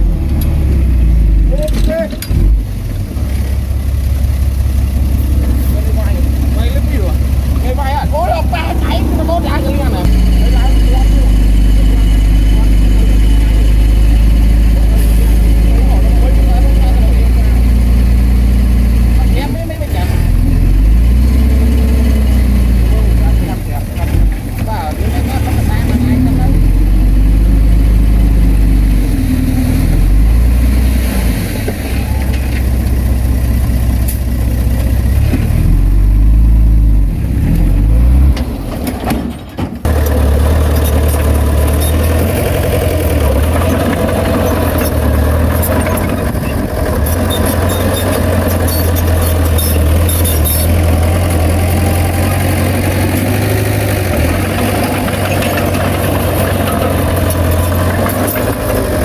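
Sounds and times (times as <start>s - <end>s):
heavy diesel engine drone: 0.0s - 59.0s.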